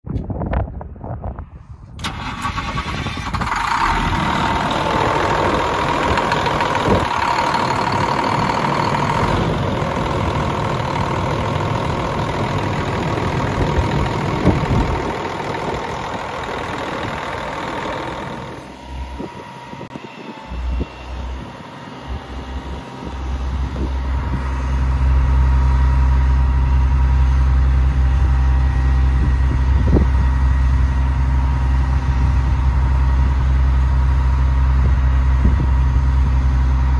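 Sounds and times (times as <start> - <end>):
steady whine: 2.0 - 36.9
truck diesel engine idling: 2.0 - 36.9.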